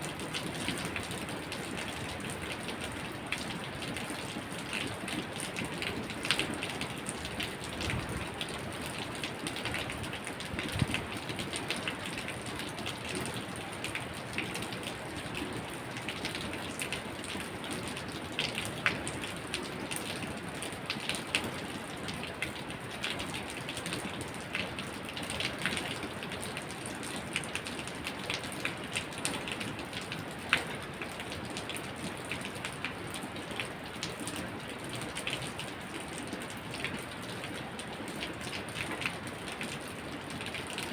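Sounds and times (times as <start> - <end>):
raindrops ticking close by: 0.0 - 40.9
steady rain falling: 0.0 - 40.9.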